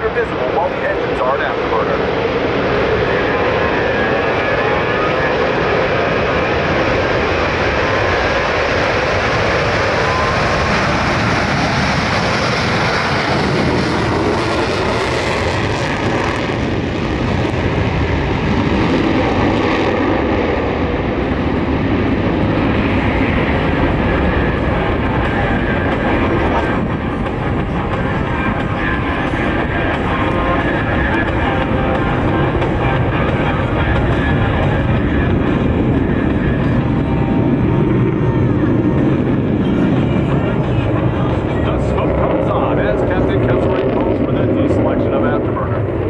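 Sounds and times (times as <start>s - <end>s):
jet engines with afterburners: 0.0s - 46.0s.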